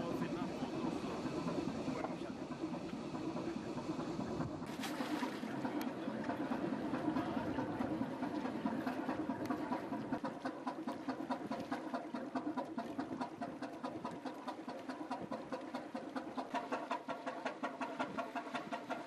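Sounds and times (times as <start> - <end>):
ship engine knocking: 0.0 - 19.0.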